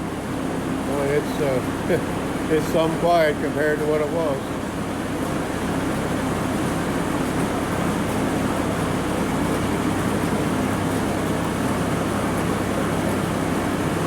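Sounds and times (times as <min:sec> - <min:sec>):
snowblower running: 0:00.0 - 0:14.0.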